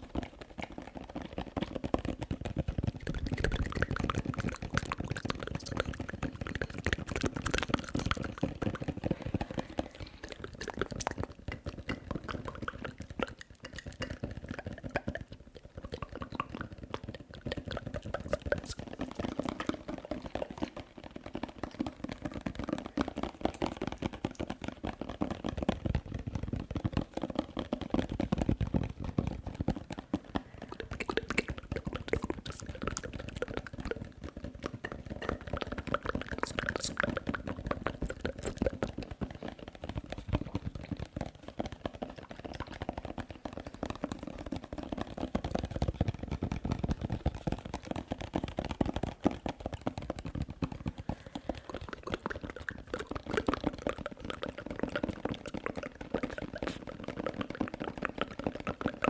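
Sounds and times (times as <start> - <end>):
wet mouth sounds: 0.0 - 27.0, 27.9 - 59.0
fast tapping: 0.0 - 59.0.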